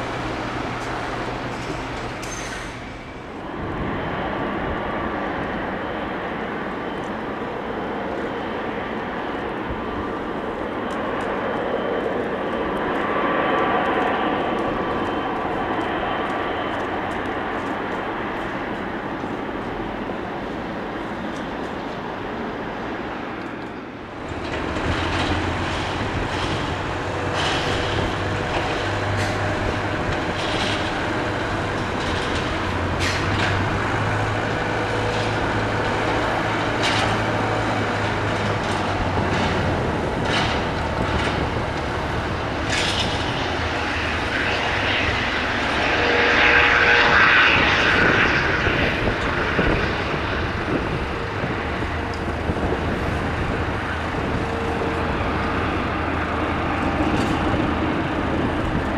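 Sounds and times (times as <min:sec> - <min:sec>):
jet engines running: 0:00.0 - 0:58.9.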